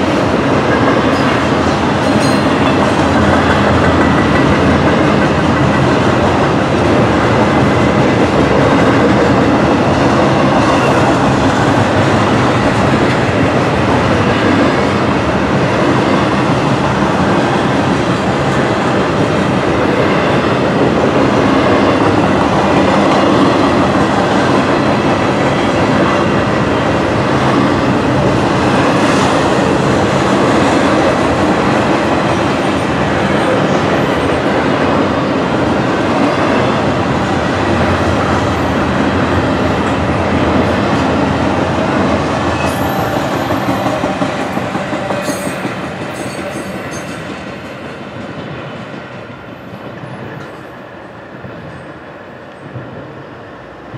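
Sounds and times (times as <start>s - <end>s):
freight train wheels on rails: 0.0s - 53.9s.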